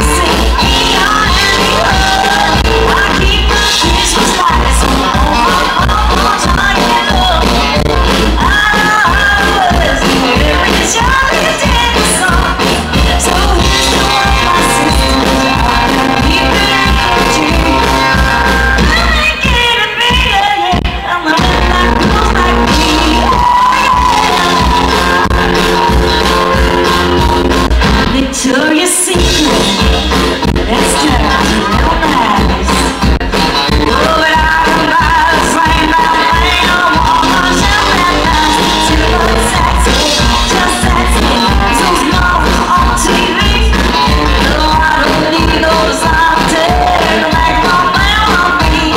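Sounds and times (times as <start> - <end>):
woman singing into a microphone: 0.0 - 25.7, 27.8 - 33.0, 33.8 - 48.9
drums: 0.0 - 48.9
electric guitar: 0.0 - 48.9.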